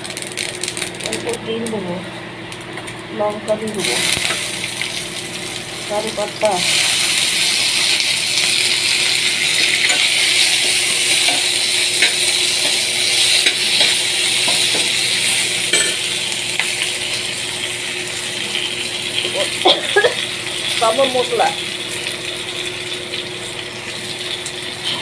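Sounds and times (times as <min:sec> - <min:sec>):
spices sizzling in hot oil: 0:00.0 - 0:01.8, 0:02.4 - 0:25.0.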